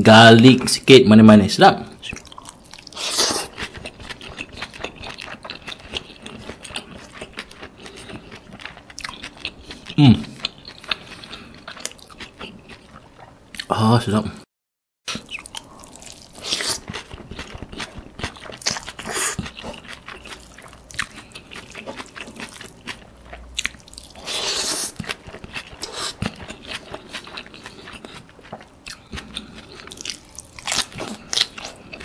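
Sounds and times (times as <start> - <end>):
wet chewing with crunching: 2.0 - 13.7, 15.1 - 32.0.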